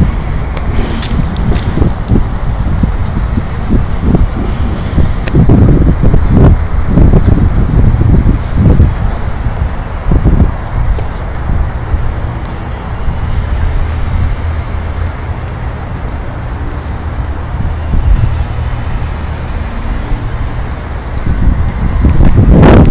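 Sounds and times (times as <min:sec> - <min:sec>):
low outdoor rumble: 0:00.0 - 0:22.9.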